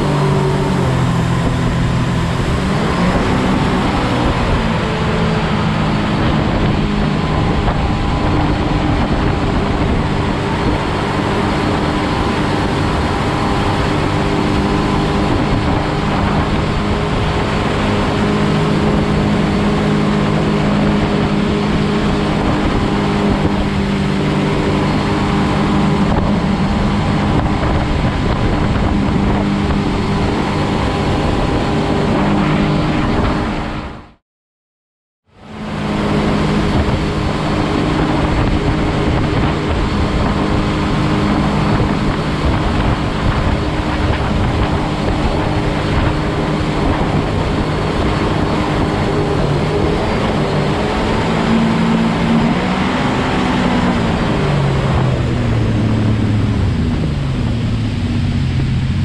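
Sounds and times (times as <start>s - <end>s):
boat engine running: 0.0s - 34.2s, 35.2s - 59.0s
rush of wind and water: 0.0s - 34.2s, 35.3s - 59.0s.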